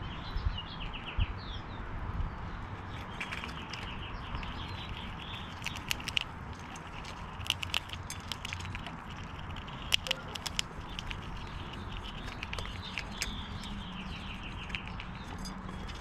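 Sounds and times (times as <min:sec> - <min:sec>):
squirrels cracking and chewing seeds: 0:02.7 - 0:16.0.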